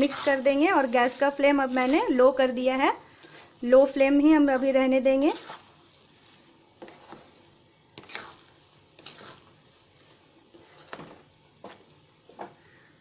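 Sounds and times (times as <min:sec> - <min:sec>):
wooden spatula scraping metal pan: 0:00.0 - 0:12.6
faint sizzle: 0:00.0 - 0:13.0.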